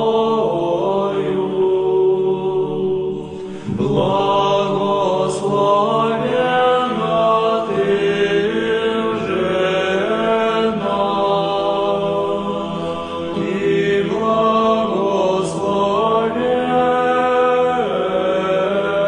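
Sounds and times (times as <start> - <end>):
slow vocal chanting: 0.0 - 19.0.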